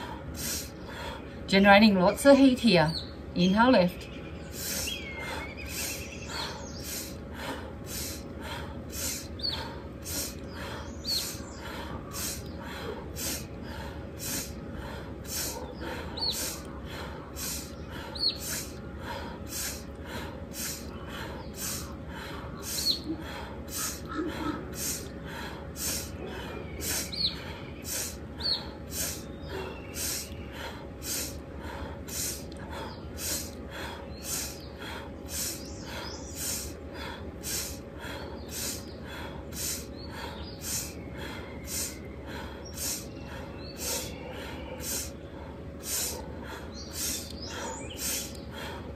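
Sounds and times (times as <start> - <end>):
birds chirping: 0.0 - 48.9
fast rhythmic breathing: 0.0 - 48.9.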